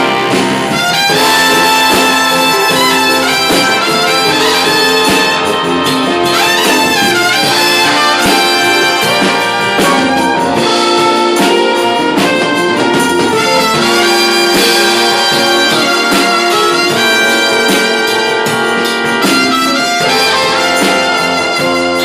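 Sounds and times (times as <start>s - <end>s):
big band jazz with brass: 0.0s - 22.0s.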